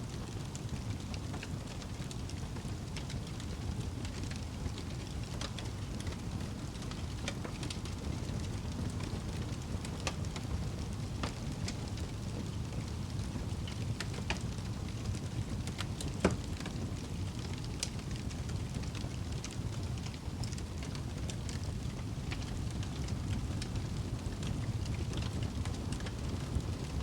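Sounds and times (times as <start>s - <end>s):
fire flames rumbling: 0.1s - 27.0s
logs crackling and popping: 0.1s - 27.0s.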